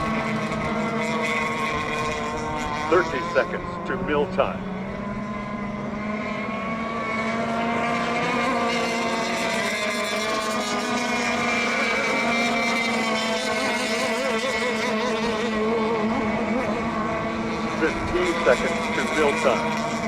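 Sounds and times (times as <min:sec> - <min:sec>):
model boat motors whining: 0:00.0 - 0:20.0.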